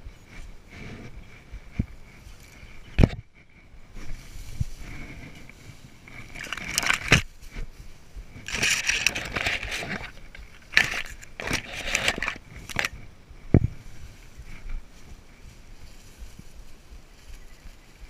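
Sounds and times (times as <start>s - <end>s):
dry grass rustling and crackling: 0.0s - 18.0s.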